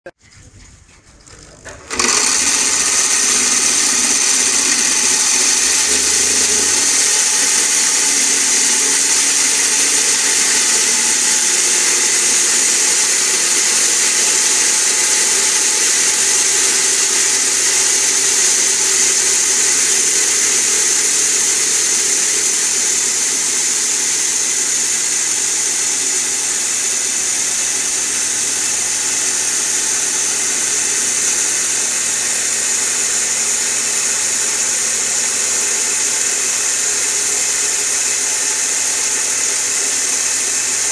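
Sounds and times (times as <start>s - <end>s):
drilling machine whining: 1.5s - 40.9s.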